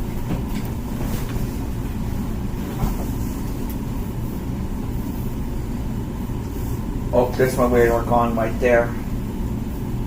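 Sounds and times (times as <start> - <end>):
dishwasher pump running: 0.0 - 10.0.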